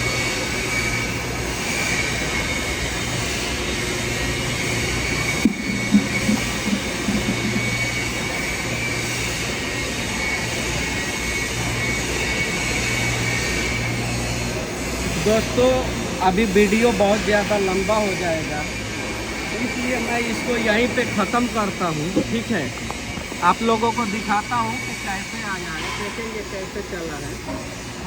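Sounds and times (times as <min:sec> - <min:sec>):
welding arc hissing: 0:05.2 - 0:28.0.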